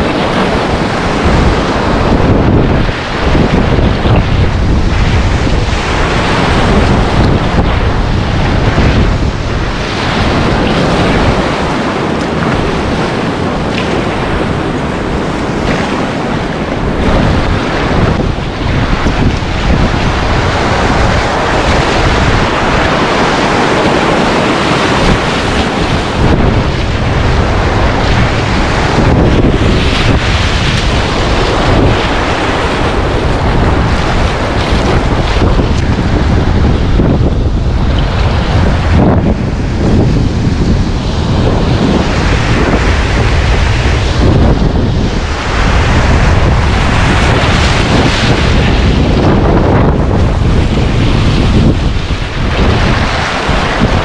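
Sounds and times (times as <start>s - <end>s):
river rapids rushing: 0.0s - 54.0s
wind buffeting microphone: 0.0s - 54.0s.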